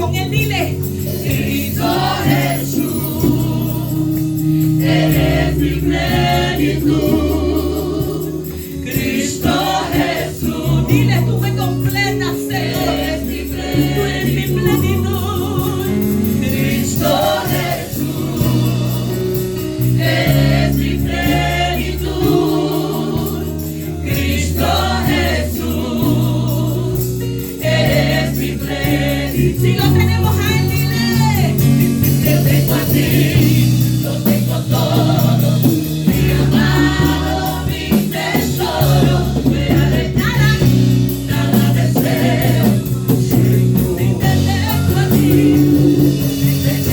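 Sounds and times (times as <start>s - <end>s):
gospel worship music: 0.0s - 46.9s
voices singing: 0.0s - 46.9s.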